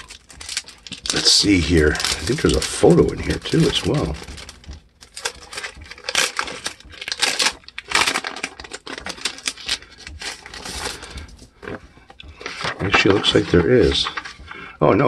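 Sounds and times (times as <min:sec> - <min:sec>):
paper rustling: 0:00.0 - 0:14.8.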